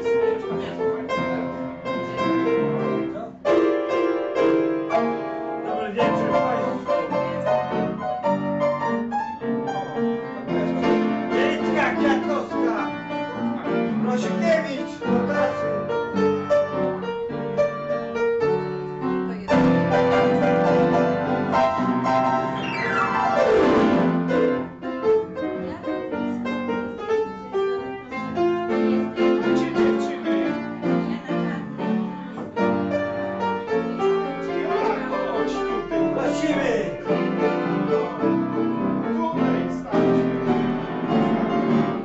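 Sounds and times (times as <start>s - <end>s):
piano glissando: 0.0s - 42.0s
upright piano playing: 0.0s - 42.0s.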